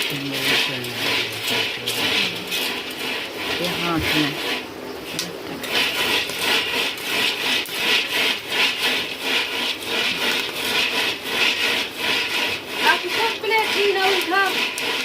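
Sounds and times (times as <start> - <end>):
rhythmic dry scraping: 0.0 - 15.0.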